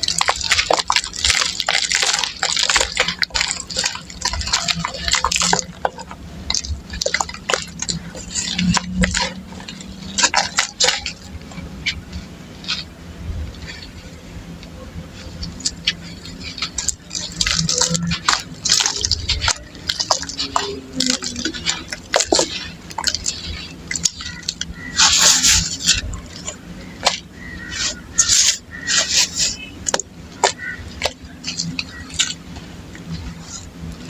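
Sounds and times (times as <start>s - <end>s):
dry dirt crunching: 0.0s - 34.0s.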